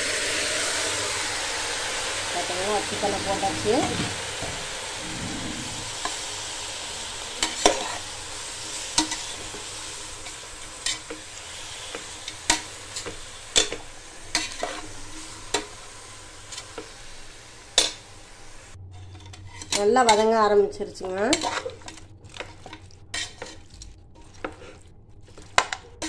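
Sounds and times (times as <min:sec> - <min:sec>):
chicken sizzling in hot oil: 0:00.0 - 0:18.8, 0:21.3 - 0:26.0.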